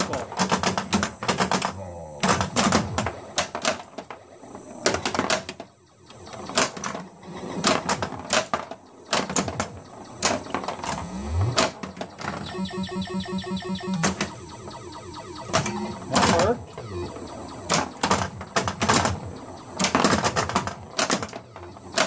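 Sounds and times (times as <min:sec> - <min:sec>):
pinball electronic beeps: 0:00.0 - 0:22.0
pinball mechanical clicks: 0:00.0 - 0:22.0.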